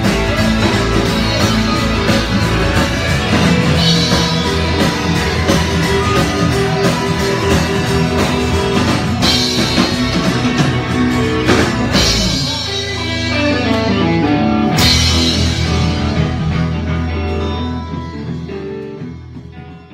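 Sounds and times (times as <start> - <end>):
rock band playing: 0.0 - 19.9.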